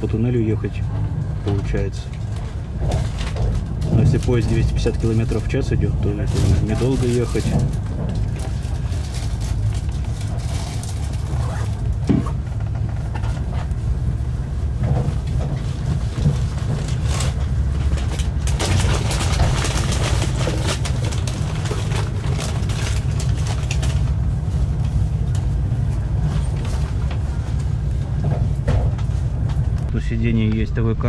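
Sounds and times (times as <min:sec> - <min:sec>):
train running gear rumble: 0:00.0 - 0:31.0.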